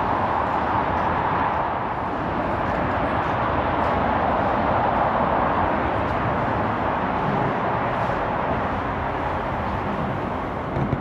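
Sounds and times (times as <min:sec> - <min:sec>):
motorway traffic noise: 0:00.0 - 0:11.0.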